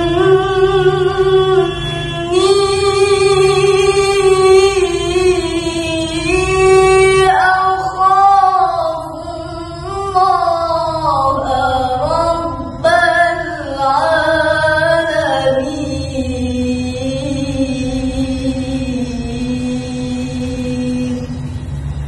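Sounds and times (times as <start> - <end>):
woman reciting melodically: 0.0 - 22.0.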